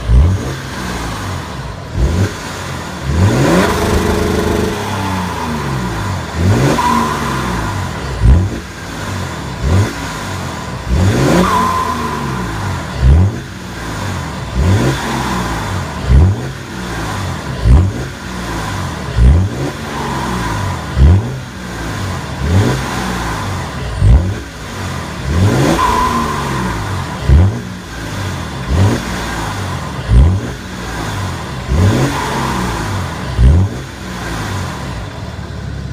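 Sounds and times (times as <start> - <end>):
diesel engine revving: 0.0 - 35.9.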